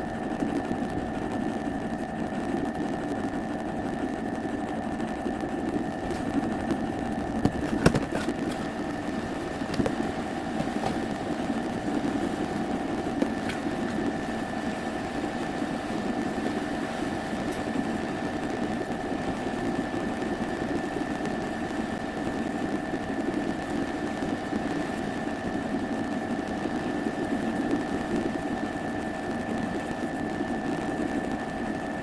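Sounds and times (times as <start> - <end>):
machine humming with high whine: 0.0 - 32.0.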